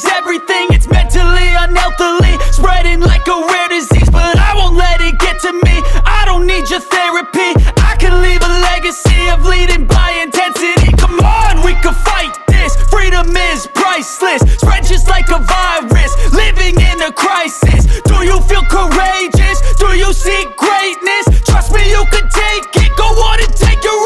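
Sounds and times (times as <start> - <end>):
hip hop music with deep bass: 0.0 - 24.0.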